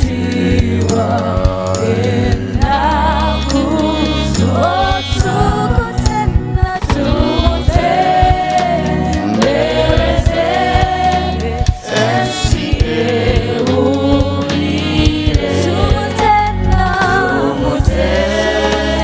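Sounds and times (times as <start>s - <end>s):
keyboard-led band: 0.0s - 19.0s
voices singing together: 0.0s - 19.0s.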